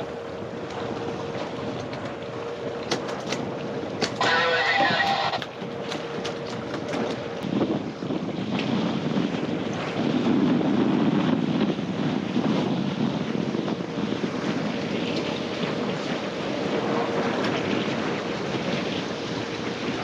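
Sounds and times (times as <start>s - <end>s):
waves washing against hull: 0.0s - 20.0s
wind buffeting microphone: 0.0s - 20.0s.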